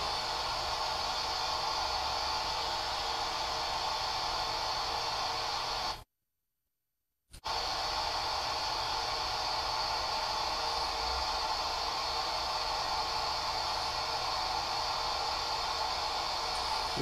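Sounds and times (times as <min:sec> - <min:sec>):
radio static hiss: 0:00.0 - 0:06.0, 0:07.4 - 0:17.0.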